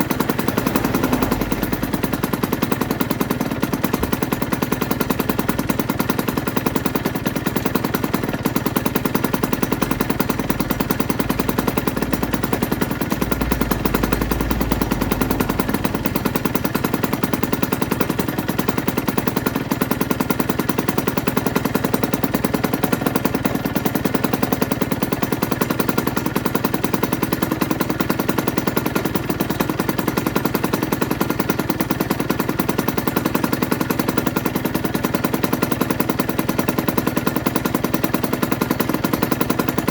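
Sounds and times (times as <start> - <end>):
two-stroke engine running steadily: 0.0 - 39.9.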